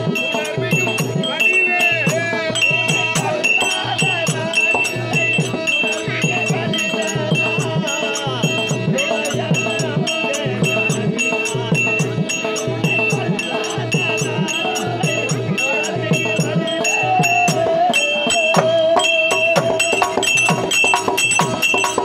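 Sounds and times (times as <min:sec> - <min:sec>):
barrel drum beating: 0:00.0 - 0:22.0
hand cymbals ringing: 0:00.0 - 0:22.0.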